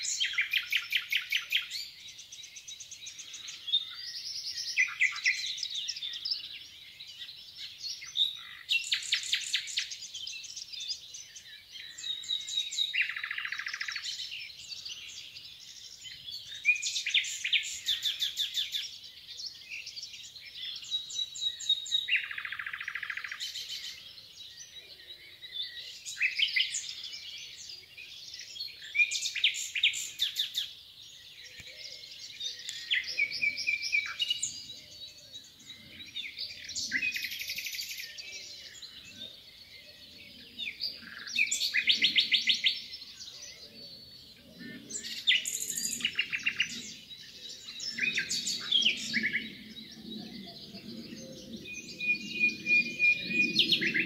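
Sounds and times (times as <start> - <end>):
nightingale singing: 0.0 - 54.0.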